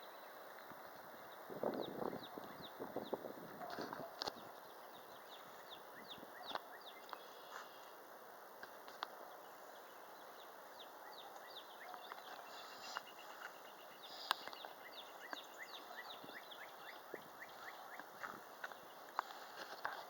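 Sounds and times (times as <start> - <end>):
small birds chirping: 0.0 - 20.0
wind blowing: 0.5 - 20.0.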